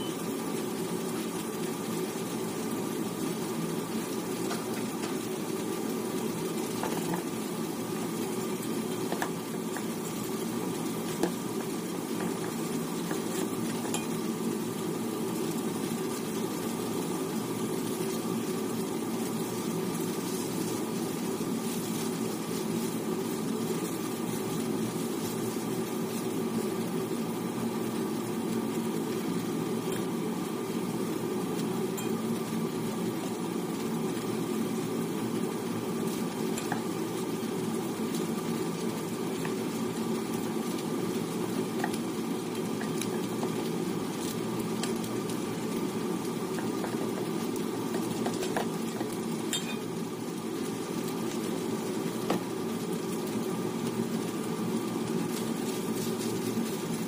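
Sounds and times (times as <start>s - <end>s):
meat and vegetables frying: 0.0s - 57.0s.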